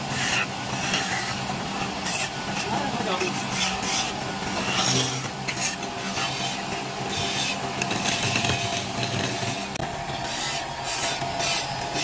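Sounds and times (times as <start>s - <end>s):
chisel scraping wood on lathe: 0.0s - 12.0s
lathe motor humming: 0.0s - 12.0s.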